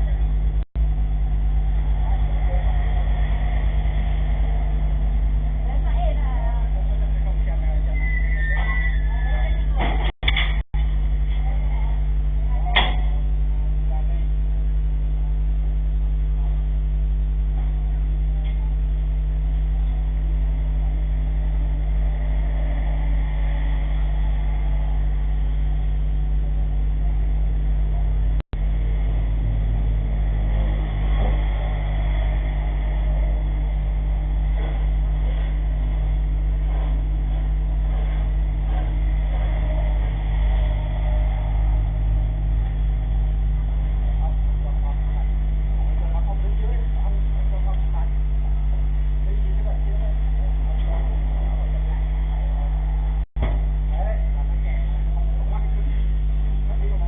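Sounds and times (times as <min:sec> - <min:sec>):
engine droning steadily: 0:00.0 - 0:57.0.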